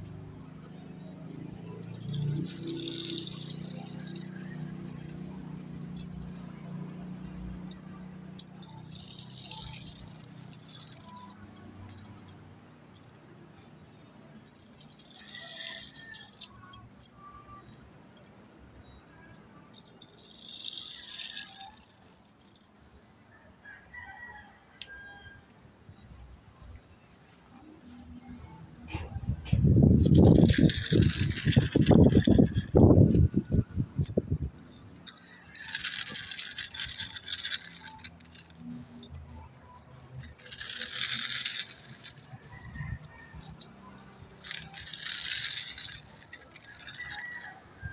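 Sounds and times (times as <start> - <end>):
toy truck wheels rattling on concrete: 0.0 - 23.0, 28.9 - 47.9.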